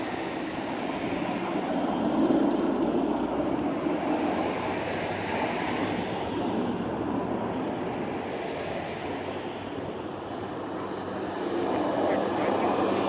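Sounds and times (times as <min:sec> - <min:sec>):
distant aircraft engines roaring: 0:00.0 - 0:13.0.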